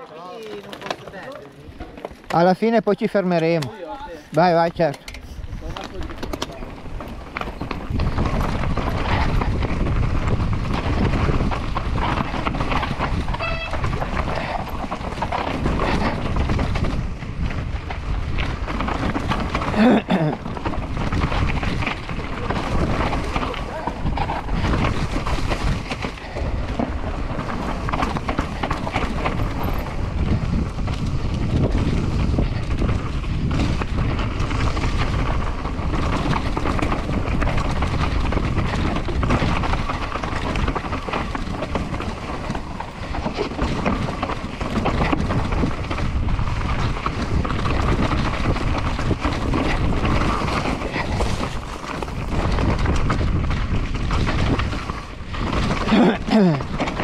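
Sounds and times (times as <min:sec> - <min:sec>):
bike knocking and rattling: 0:00.0 - 0:57.0
tyres rumbling on dirt and rock: 0:00.0 - 0:57.0
wind buffeting microphone: 0:03.5 - 0:57.0.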